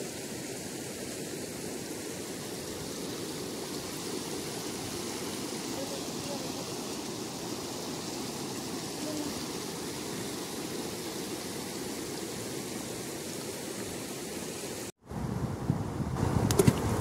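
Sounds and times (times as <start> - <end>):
flood water rushing over gravel: 0.0 - 14.9.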